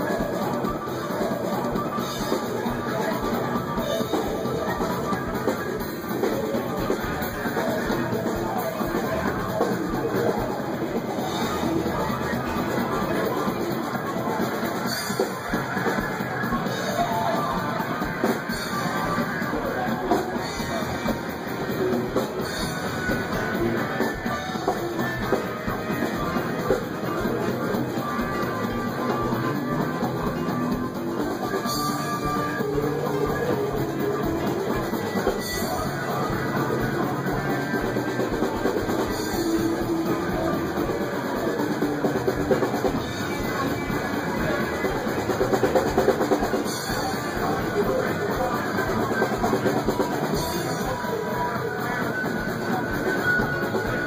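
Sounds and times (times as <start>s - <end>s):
rock music with drums and guitar: 0.0s - 54.0s.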